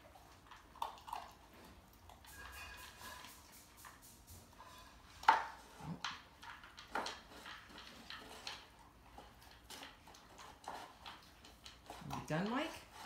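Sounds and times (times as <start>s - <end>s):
dog crunching kibble: 0.0s - 4.0s, 5.1s - 13.0s.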